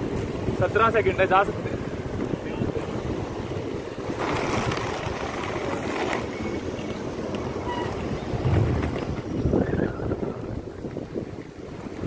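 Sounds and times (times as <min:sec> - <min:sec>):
skate wheels rolling on asphalt: 0:00.0 - 0:12.0
wind buffeting microphone: 0:00.0 - 0:12.0.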